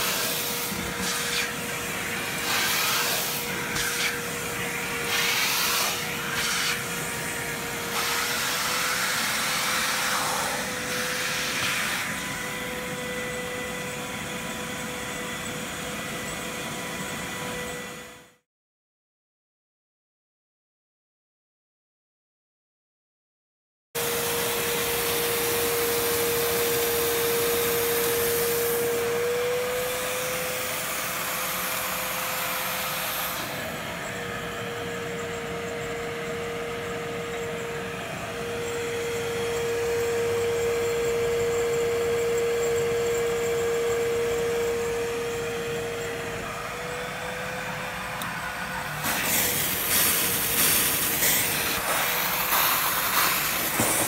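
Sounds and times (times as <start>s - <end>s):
vacuum motor whine: 0.0s - 18.4s, 24.0s - 54.0s.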